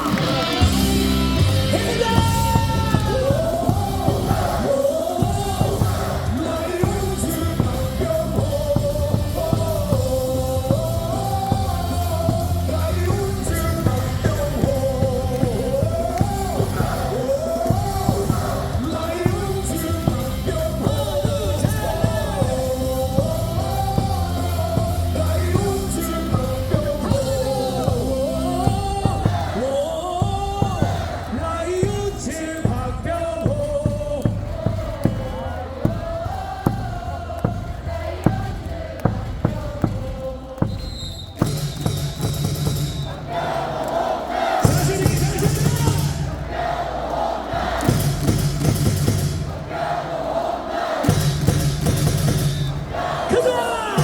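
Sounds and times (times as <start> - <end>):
loudspeaker music with steady beat: 0.0 - 40.8, 44.6 - 49.7, 51.0 - 54.0
crowd singing in unison: 0.0 - 54.0.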